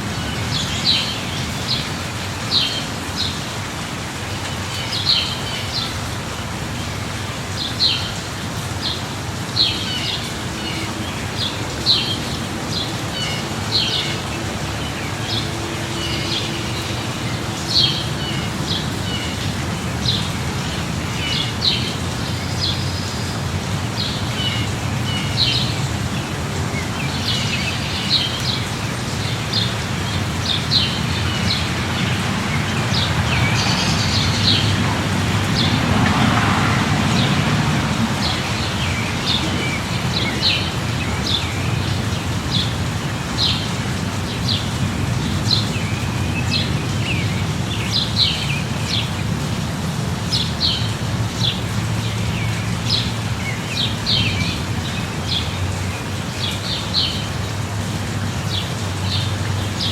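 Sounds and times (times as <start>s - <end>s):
light rain: 0.0s - 59.9s.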